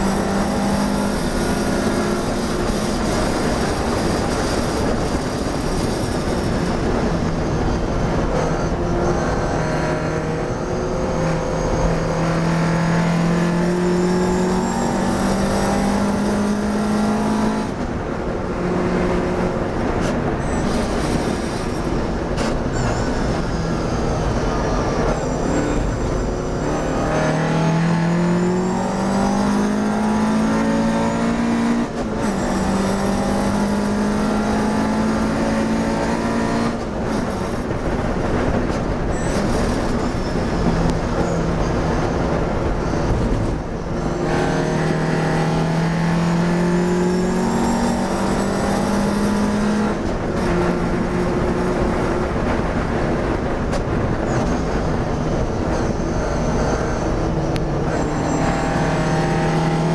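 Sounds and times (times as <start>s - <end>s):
racing car engine accelerating: 0.0s - 59.9s.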